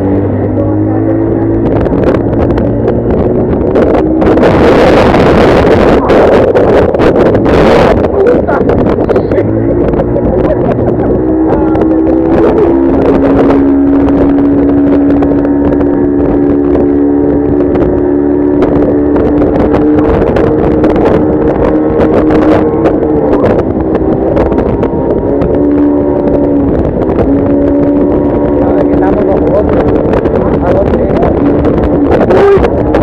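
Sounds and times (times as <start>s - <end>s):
motorboat engine running: 0.0s - 33.0s
wind noise on microphone: 0.0s - 33.0s.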